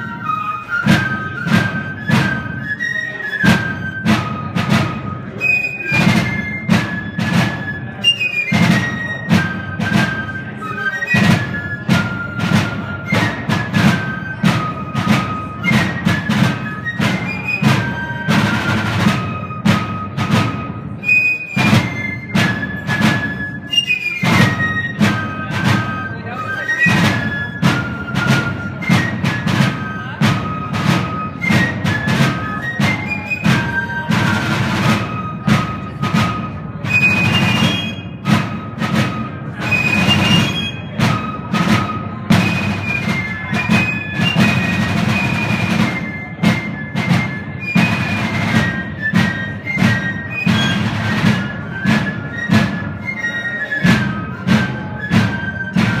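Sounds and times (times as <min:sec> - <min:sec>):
field drums beating rapidly: 0:00.0 - 0:56.0.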